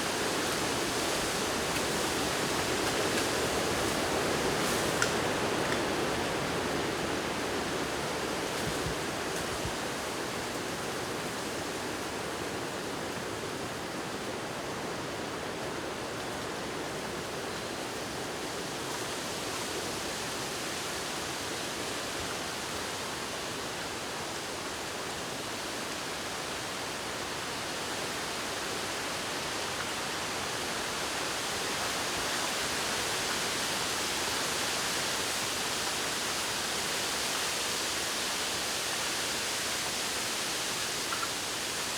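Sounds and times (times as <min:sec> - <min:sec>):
wind rustling bamboo leaves: 0:00.0 - 0:41.9.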